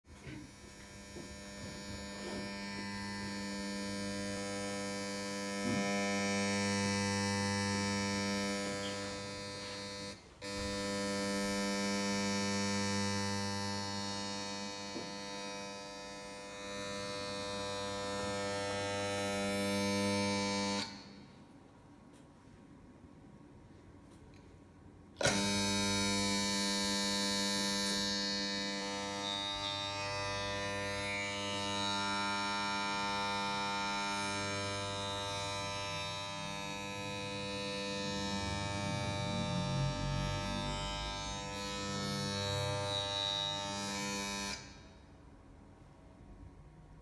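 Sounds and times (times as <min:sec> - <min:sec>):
buzzing hum with overtones: 0:00.1 - 0:22.3, 0:25.0 - 0:45.2.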